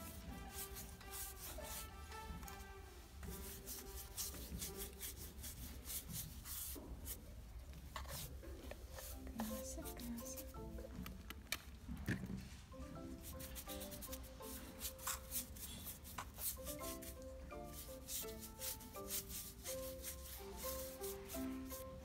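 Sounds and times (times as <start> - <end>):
brush scratching on hoof: 0.0 - 10.5, 13.2 - 22.0
background music: 0.0 - 22.0.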